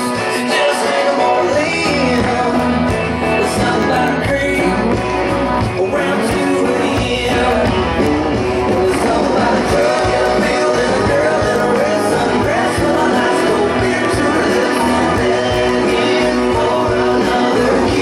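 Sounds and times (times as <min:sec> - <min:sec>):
country song with singing: 0:00.0 - 0:18.0.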